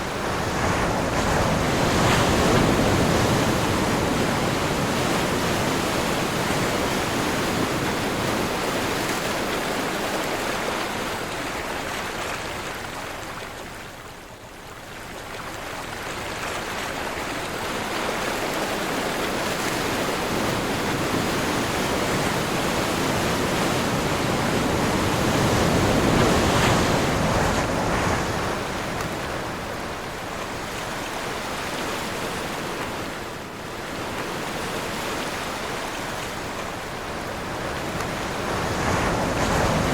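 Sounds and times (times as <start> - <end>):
ocean waves surging: 0.0 - 13.4, 16.2 - 39.9
wind: 0.0 - 39.9.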